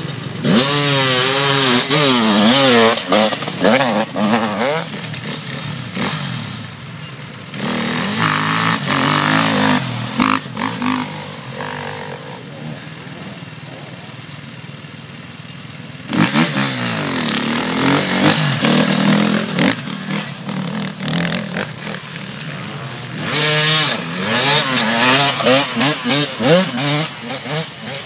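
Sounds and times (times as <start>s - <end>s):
motorcycle passing revving hard: 0.0s - 6.8s, 7.5s - 14.3s, 16.0s - 28.0s
motorcycle revving and shifting gears: 0.0s - 15.0s, 15.6s - 28.0s
motorcycle engines idling: 0.0s - 28.0s.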